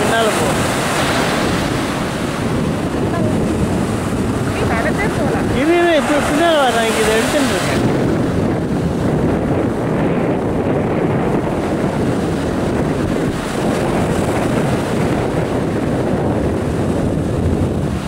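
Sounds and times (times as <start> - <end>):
surf breaking on shore: 0.0 - 18.0
wind buffeting microphone: 0.0 - 18.0.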